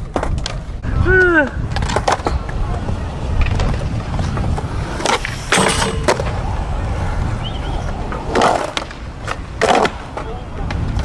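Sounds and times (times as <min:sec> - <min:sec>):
skateboard clacks: 0:00.0 - 0:11.0
skateboard wheels rolling on concrete: 0:00.0 - 0:11.0.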